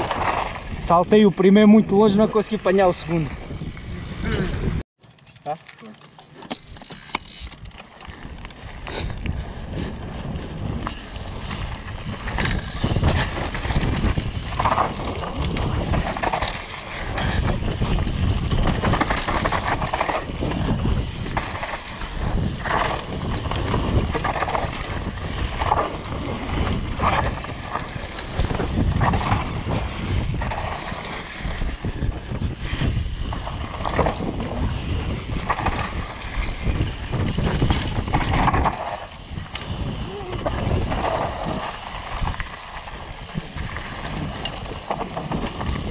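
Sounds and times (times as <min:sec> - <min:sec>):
wind buffeting microphone: 0:00.0 - 0:04.8, 0:07.3 - 0:45.9
bike rattling on rough trail: 0:00.0 - 0:45.9.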